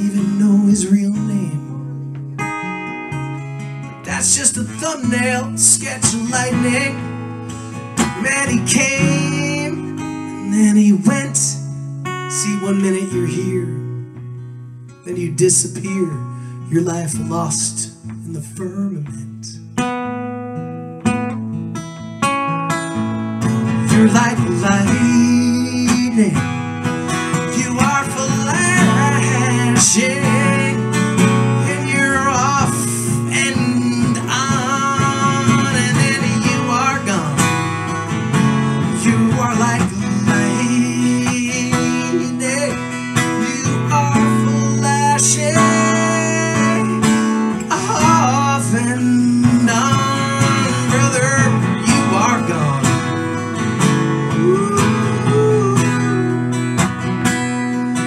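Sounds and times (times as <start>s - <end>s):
wordless vocal melody: 0.0s - 14.2s, 23.4s - 58.0s
acoustic guitar strumming: 0.0s - 58.0s.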